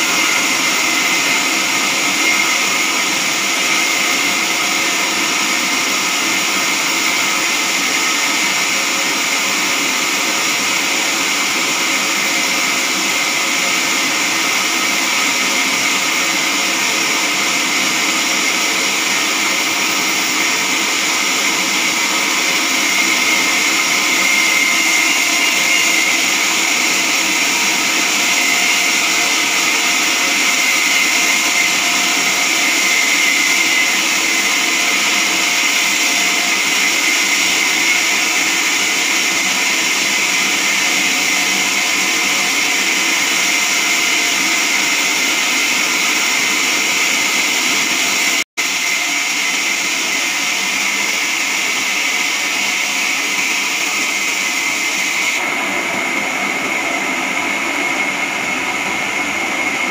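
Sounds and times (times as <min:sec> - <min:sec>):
band saw cutting log: 0:00.0 - 0:55.5.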